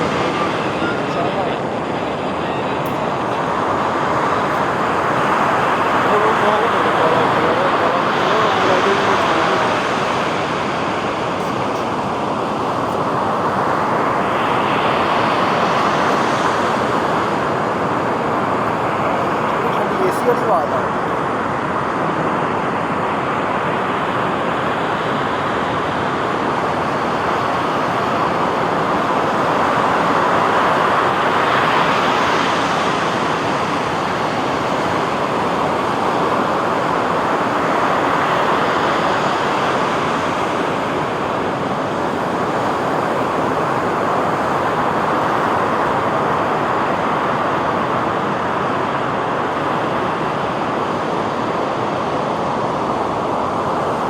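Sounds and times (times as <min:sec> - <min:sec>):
sea surf washing onto beach: 0:00.0 - 0:54.0.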